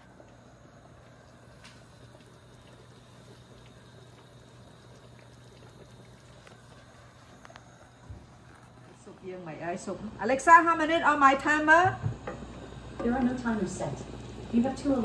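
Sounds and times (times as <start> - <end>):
water bubbling in a pot: 0.0 - 15.0.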